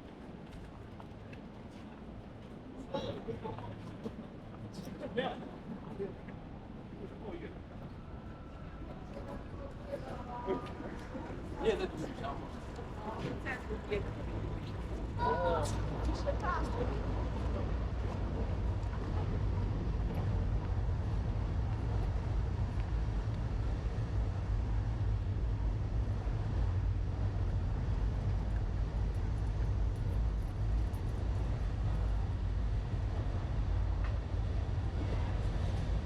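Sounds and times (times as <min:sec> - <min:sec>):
city street rumble: 0:00.0 - 0:36.0.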